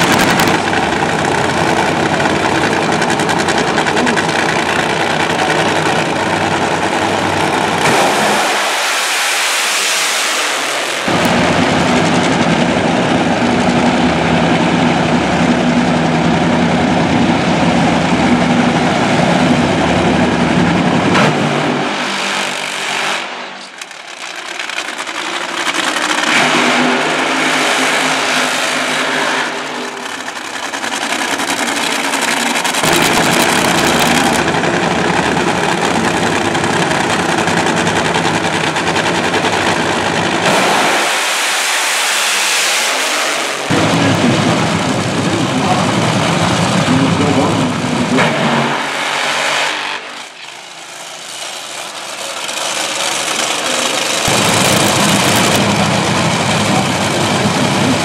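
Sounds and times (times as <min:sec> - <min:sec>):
car burnout: 0:00.0 - 0:58.0
drag racing engines roaring: 0:00.0 - 0:58.0.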